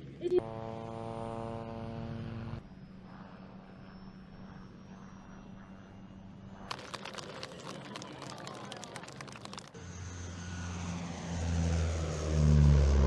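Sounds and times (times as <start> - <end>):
distant helicopter engine hum: 0.0 - 13.0
helicopter loud drone: 0.0 - 13.0.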